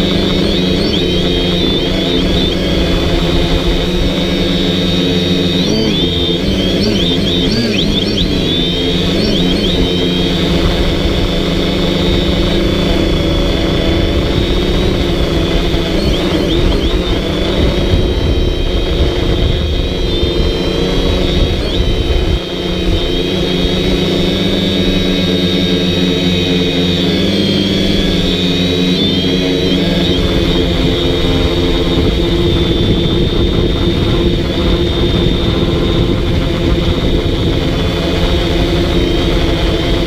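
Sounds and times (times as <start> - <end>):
drone motors whining: 0.0 - 40.0.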